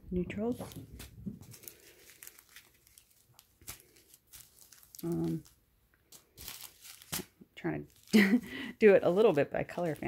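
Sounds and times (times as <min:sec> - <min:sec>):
plastic bags crinkling: 0:00.4 - 0:10.0.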